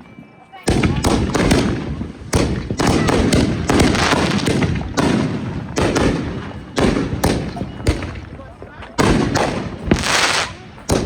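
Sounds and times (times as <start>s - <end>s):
fireworks bangs with rumbling echo: 0.6s - 11.0s.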